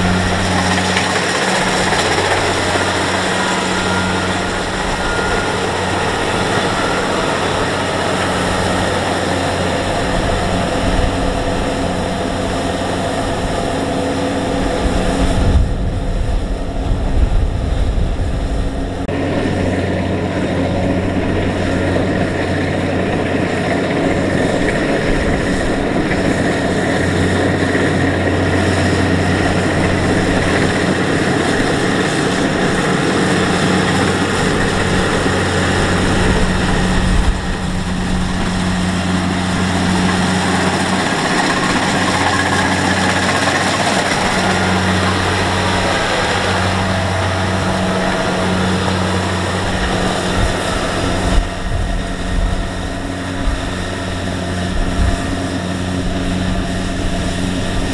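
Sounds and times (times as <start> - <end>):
combine harvester diesel engine drone: 0.0 - 57.9.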